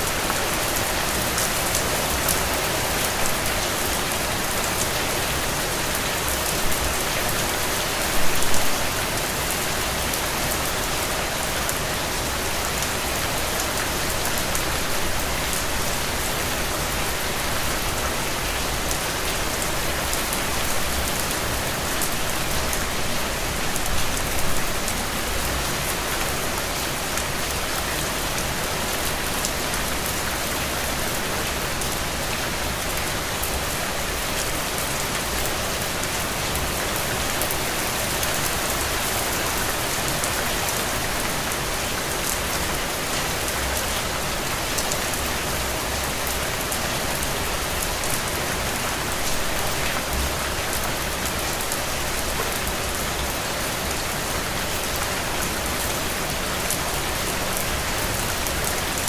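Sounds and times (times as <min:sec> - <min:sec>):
dense rain pattering: 0:00.0 - 0:59.0.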